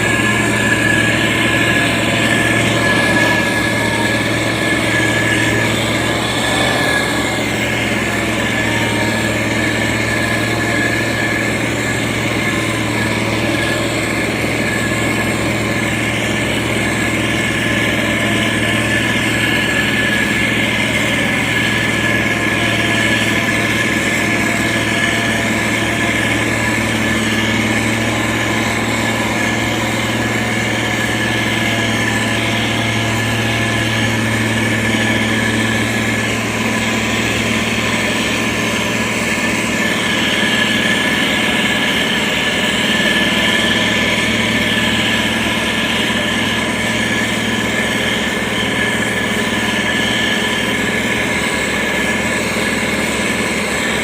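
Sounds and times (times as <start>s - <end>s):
heavy machine engine droning: 0.0s - 54.0s
high whine: 0.0s - 54.0s.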